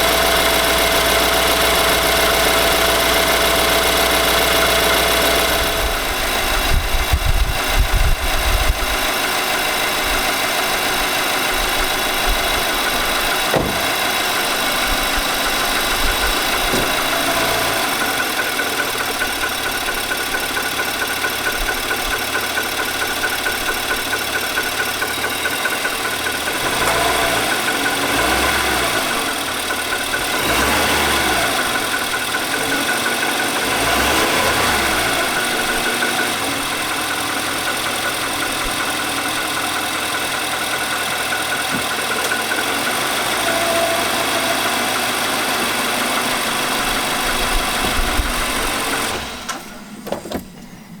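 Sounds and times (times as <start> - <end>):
engine running with rhythmic knock: 0.0 - 51.0.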